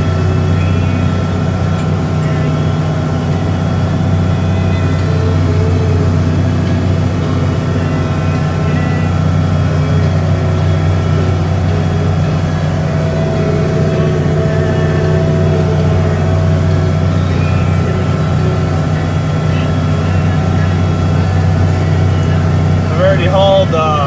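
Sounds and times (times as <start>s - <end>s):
manure spreader running: 0.0s - 24.0s
tractor engine running: 0.0s - 24.0s.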